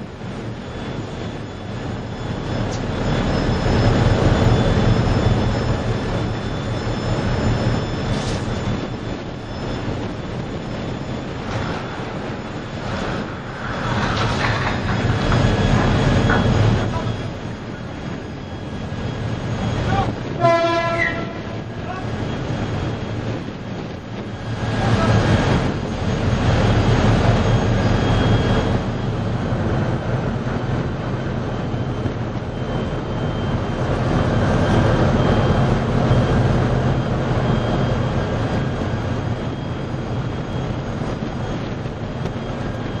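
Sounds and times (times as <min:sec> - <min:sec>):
boat engines droning: 0:00.0 - 0:43.0
rushing noise: 0:00.0 - 0:43.0.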